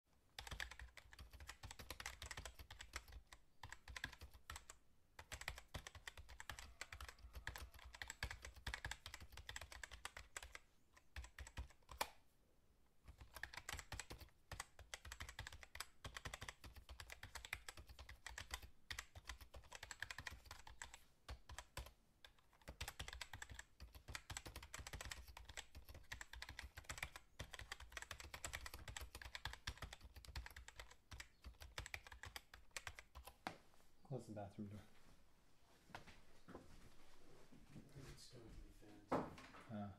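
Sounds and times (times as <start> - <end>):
fast typing on keyboard: 0.3 - 12.2, 13.1 - 33.4.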